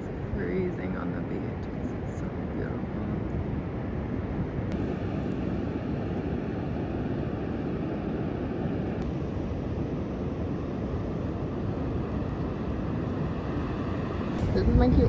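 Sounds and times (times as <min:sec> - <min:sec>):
ocean surf rumble: 0:00.0 - 0:15.0
wind buffeting microphone: 0:00.0 - 0:15.0.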